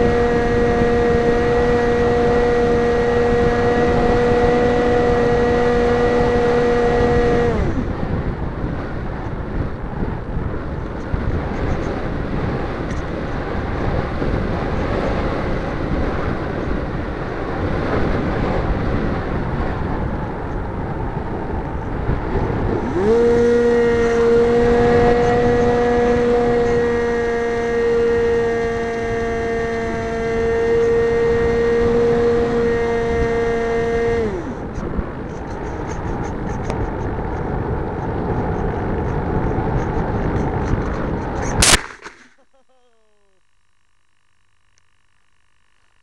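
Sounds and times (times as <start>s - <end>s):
electric motor whine: 0.0s - 9.4s, 10.8s - 46.0s.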